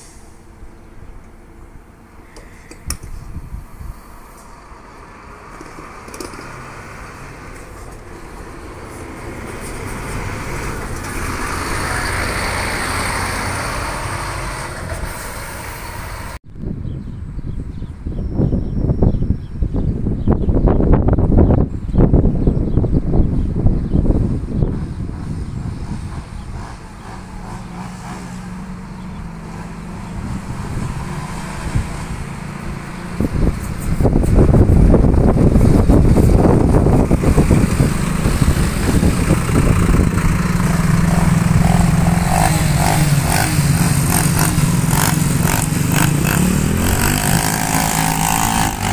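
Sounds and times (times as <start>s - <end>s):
diesel bus engine droning: 0.0s - 16.4s, 24.1s - 48.9s.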